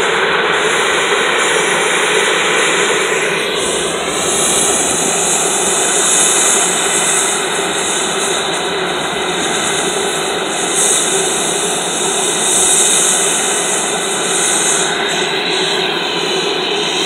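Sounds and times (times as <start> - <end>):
helicopter turbine and rotor noise: 0.0 - 17.0.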